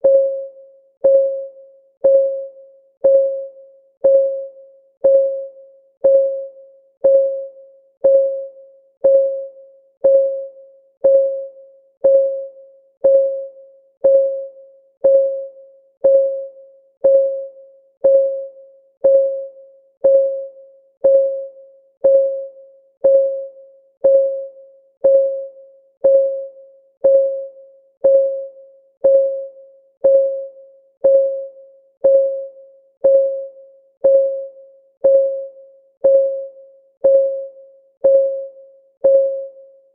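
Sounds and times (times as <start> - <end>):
countdown timer ticking: 1.0 - 39.6.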